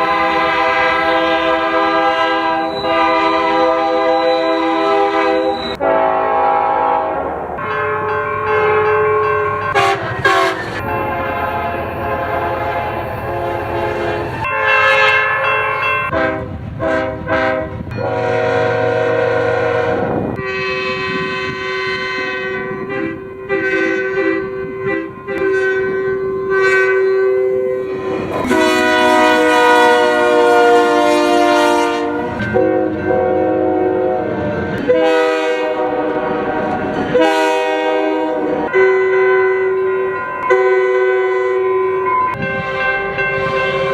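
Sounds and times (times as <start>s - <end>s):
train horn blasts: 0.0s - 43.9s
train horn short toots: 0.0s - 43.9s.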